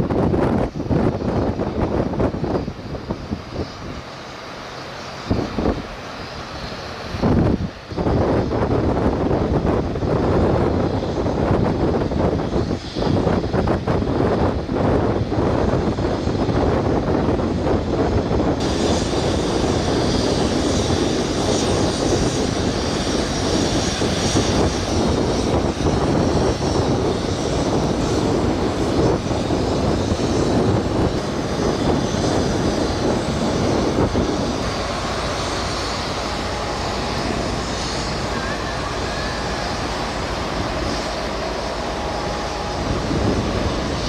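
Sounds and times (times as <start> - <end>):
wind buffeting microphone: 0.0 - 44.0
hiss: 0.1 - 44.0.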